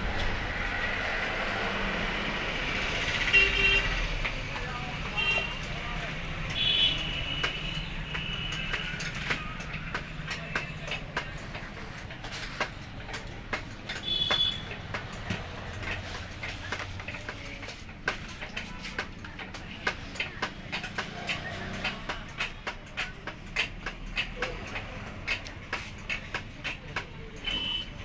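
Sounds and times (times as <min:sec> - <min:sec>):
hand tools clicking and clinking: 0:03.9 - 0:28.0.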